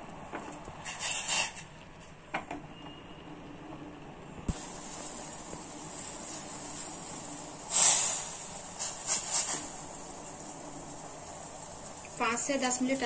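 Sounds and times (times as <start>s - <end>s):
tea boiling with hissing bubbles: 0.0s - 1.9s, 3.7s - 13.0s.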